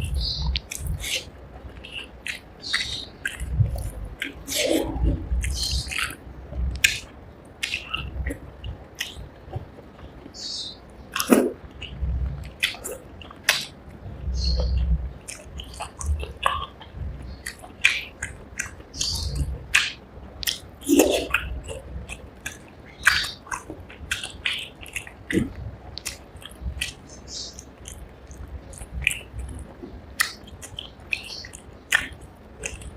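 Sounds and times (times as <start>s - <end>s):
soft chewing: 0.0s - 10.5s, 11.1s - 32.9s.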